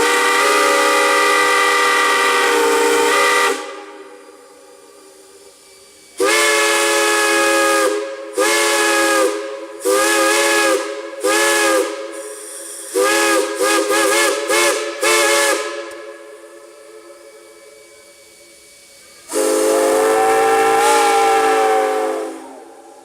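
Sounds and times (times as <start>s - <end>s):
steam hissing: 0.0s - 23.0s
steam whistle blasts: 0.0s - 23.0s.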